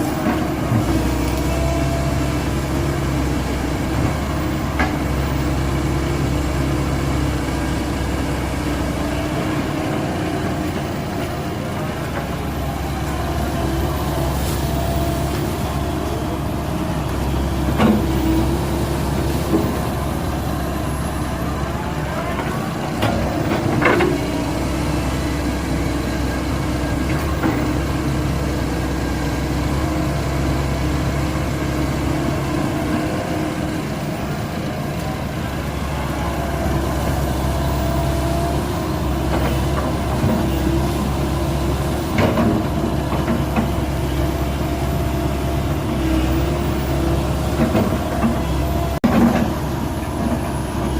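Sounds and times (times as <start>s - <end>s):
excavator diesel engine running: 0.0s - 50.9s
hydraulics whining: 0.0s - 50.9s.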